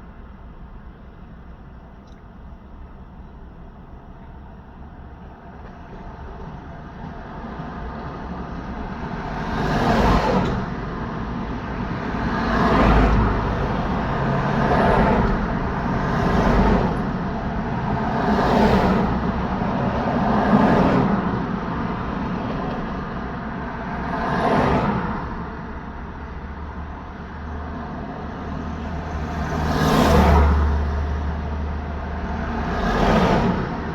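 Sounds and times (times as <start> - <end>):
steady road noise: 0.0 - 33.9
vehicles driving past: 4.9 - 33.9.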